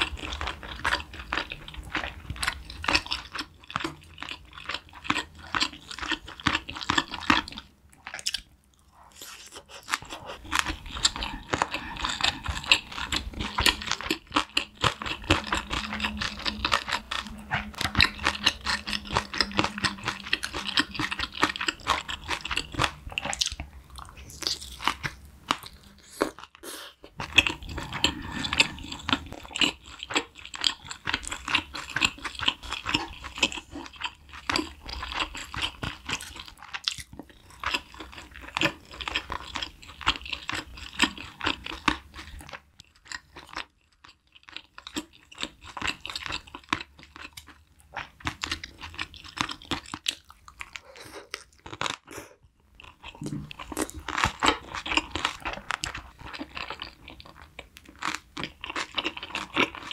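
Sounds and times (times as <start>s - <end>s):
chewing with mouth clicks: 0.0s - 59.9s.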